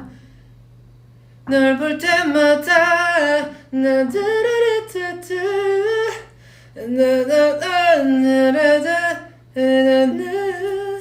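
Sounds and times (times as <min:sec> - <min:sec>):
man singing unaccompanied: 0:01.5 - 0:11.0.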